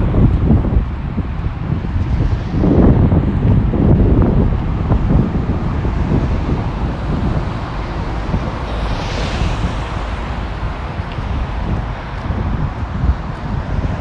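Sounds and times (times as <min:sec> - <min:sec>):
road traffic: 0:00.0 - 0:14.0
wind buffeting microphone: 0:00.0 - 0:14.0.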